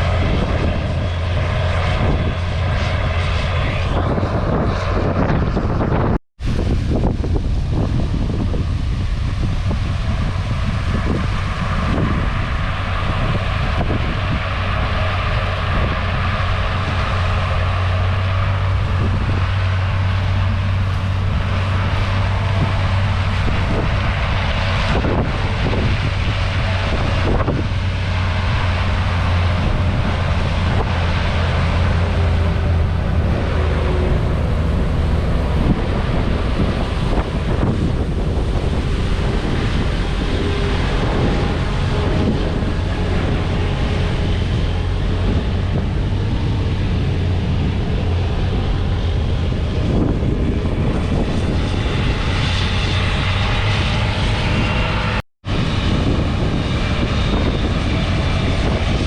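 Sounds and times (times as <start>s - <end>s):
diesel farm machinery running: 0.0s - 59.0s.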